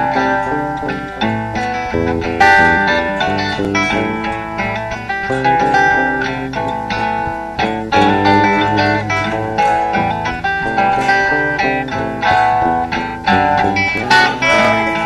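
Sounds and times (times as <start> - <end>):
guitars playing: 0.0 - 15.0.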